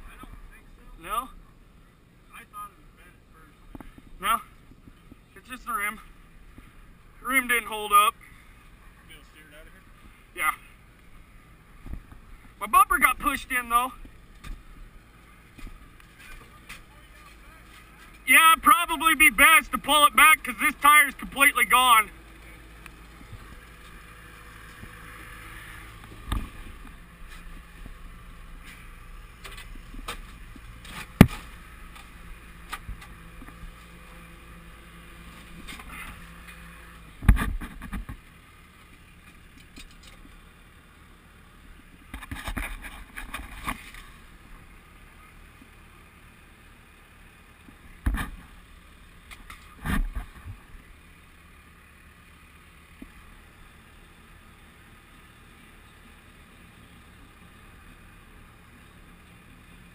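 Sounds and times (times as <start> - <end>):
low steady engine hum: 0.0 - 59.9.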